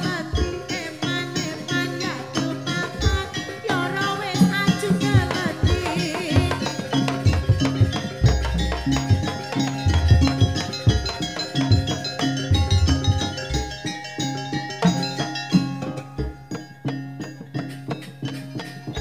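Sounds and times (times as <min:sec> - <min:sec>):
drums beating: 0:00.0 - 0:19.0
wavering melody: 0:00.0 - 0:19.0.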